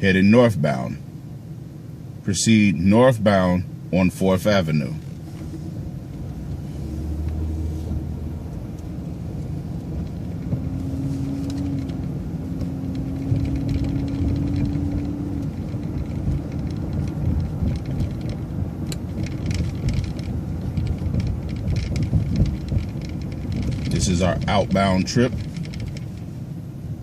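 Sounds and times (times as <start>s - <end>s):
bus engine and road rumble: 0.0s - 27.0s
light ticks and rattles: 4.8s - 26.6s.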